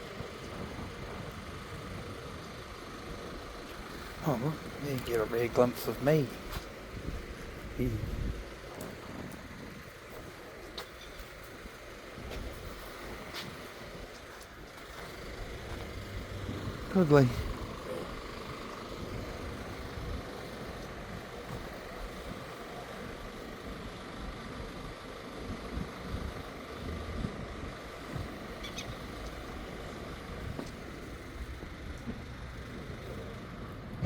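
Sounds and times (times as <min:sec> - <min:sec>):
distant road traffic hum: 0:00.0 - 0:34.0.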